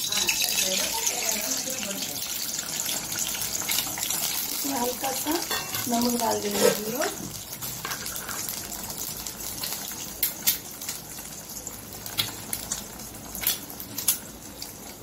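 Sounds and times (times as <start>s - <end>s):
eggs sizzling in hot oil: 0.0s - 15.0s
oil crackling and popping: 0.0s - 15.0s.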